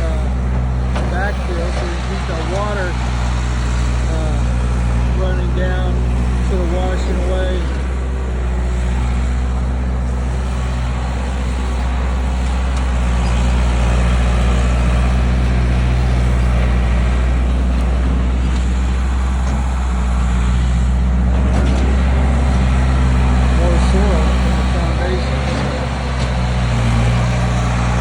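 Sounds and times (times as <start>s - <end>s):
skid steer engine droning: 0.0s - 28.0s.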